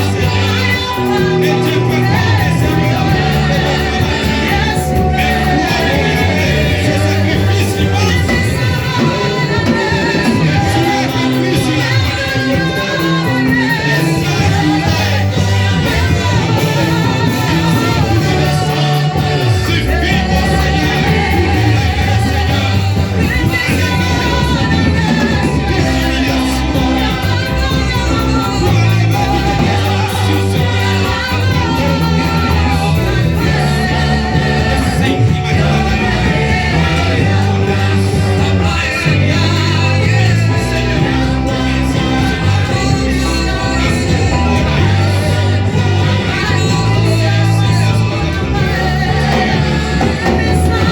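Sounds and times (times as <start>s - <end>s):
band with steady bass line: 0.0s - 50.9s
voices singing worship music: 0.0s - 50.9s.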